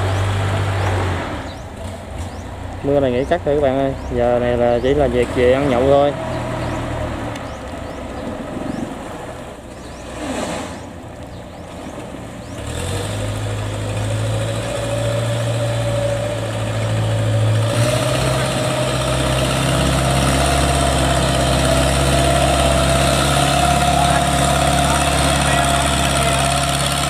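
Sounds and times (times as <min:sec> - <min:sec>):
ferry engine humming: 0:00.0 - 0:27.0.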